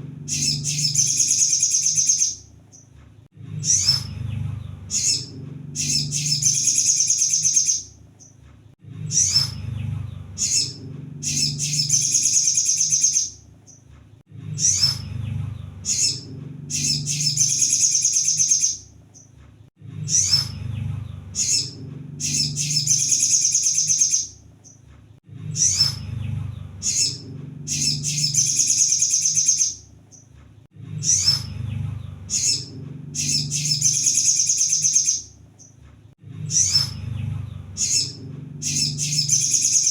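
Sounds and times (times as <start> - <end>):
low hum: 0.0 - 39.9
bird chirps and trill: 0.2 - 2.9, 3.5 - 8.4, 9.0 - 24.8, 25.4 - 30.3, 30.9 - 35.8, 36.4 - 39.9.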